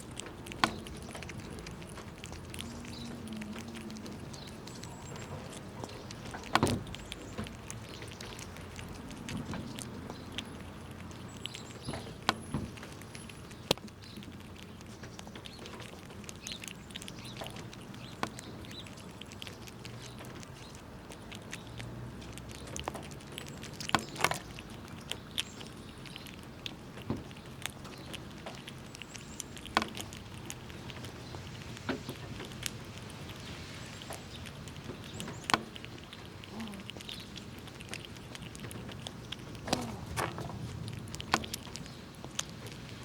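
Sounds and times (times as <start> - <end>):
squirrels cracking nuts: 0.0 - 43.0.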